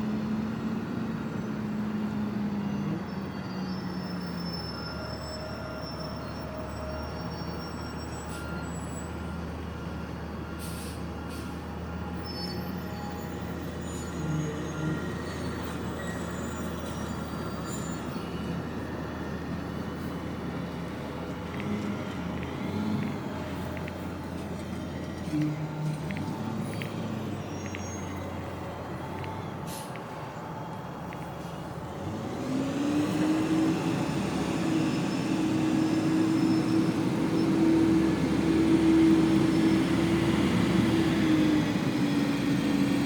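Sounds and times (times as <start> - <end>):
garbage truck diesel engine: 0.0 - 43.0.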